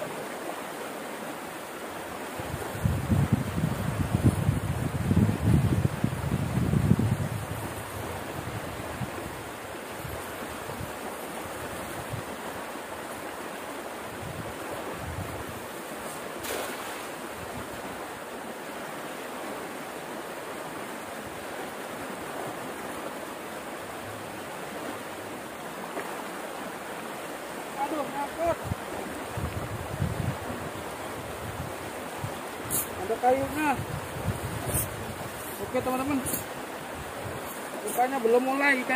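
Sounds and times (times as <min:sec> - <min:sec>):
stream running: 0:00.0 - 0:38.9
water rushing over a cascade: 0:00.0 - 0:38.9.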